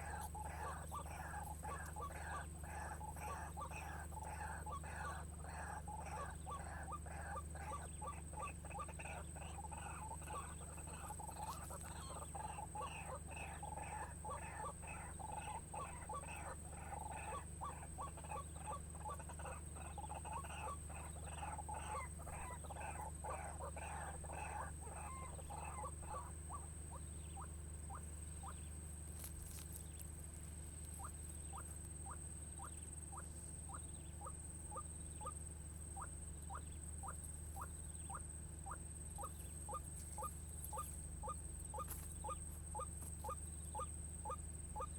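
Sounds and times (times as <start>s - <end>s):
waterhen calls: 0.0s - 44.9s.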